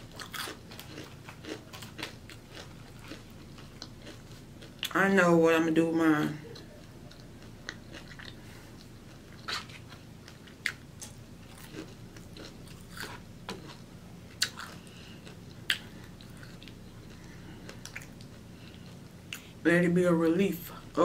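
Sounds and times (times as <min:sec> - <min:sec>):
crunchy chewing: 0:00.0 - 0:04.9, 0:06.5 - 0:19.6
faint steady hum: 0:00.0 - 0:21.0.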